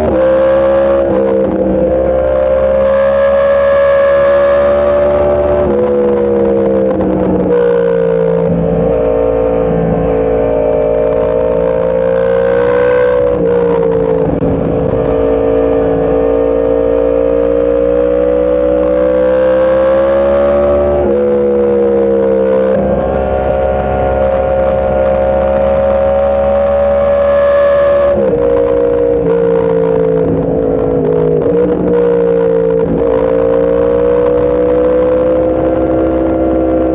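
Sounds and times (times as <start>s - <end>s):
motorcycle engine revving high: 0.0s - 36.9s.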